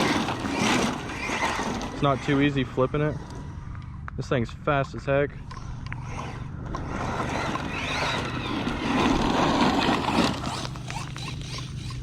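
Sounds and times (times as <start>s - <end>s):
rc truck electric motor: 0.0s - 3.8s, 5.4s - 12.0s.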